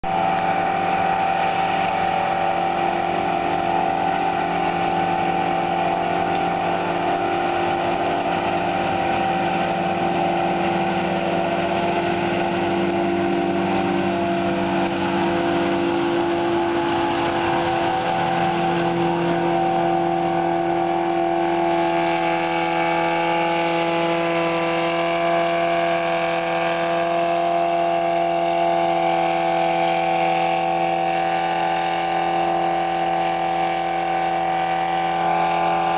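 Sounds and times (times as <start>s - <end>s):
diesel engine running under load: 0.0s - 35.9s.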